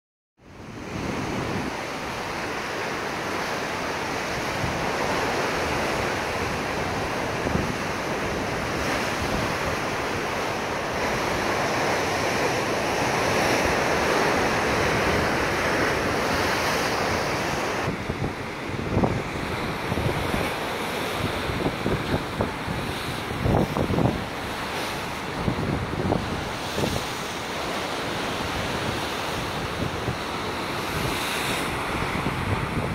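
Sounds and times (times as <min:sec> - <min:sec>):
surf breaking over rocks: 0:00.7 - 0:32.9.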